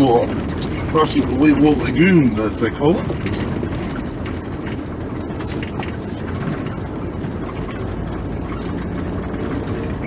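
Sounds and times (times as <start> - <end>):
light clicks and rattles: 0.0 - 10.0
vehicle engine and road rumble: 0.0 - 10.0.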